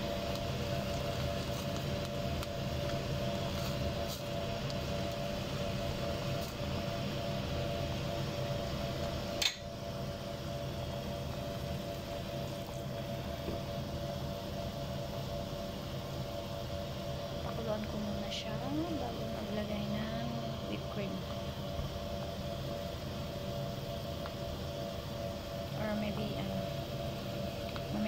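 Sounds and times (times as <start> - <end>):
electric cooktop hum: 0.0 - 28.0
food sizzling in a pot: 0.0 - 28.0.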